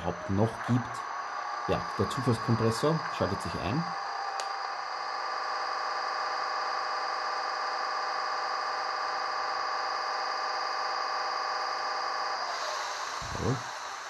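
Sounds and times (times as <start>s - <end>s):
model air compressor hum: 0.0s - 14.0s.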